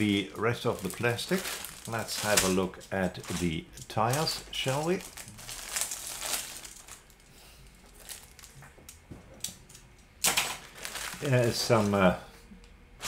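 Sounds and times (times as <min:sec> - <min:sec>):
plastic bag crinkling: 0:00.0 - 0:08.9, 0:10.3 - 0:12.2.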